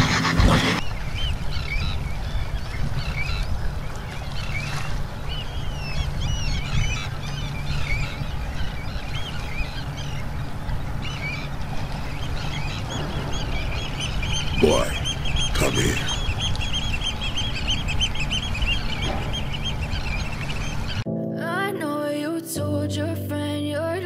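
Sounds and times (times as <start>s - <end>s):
birds chirping: 0.3s - 21.1s.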